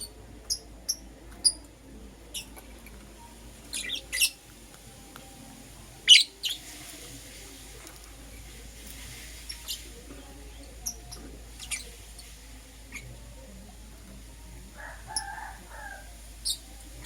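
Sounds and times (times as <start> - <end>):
lovebirds chirping: 0.0 - 7.4, 8.9 - 13.4, 14.5 - 17.0.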